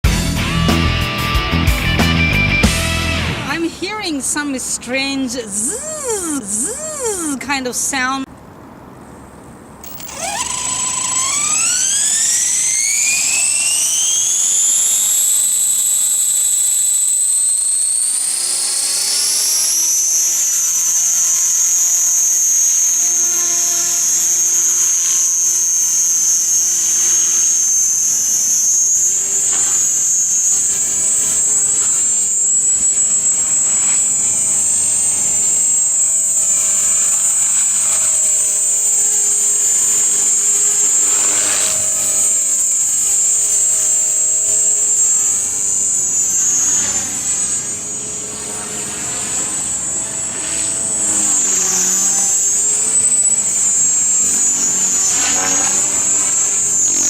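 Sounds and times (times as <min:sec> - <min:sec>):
intermittent buzzes: 0:03.2 - 0:57.0
rc helicopter motor whine: 0:03.9 - 0:08.3, 0:09.3 - 0:57.0.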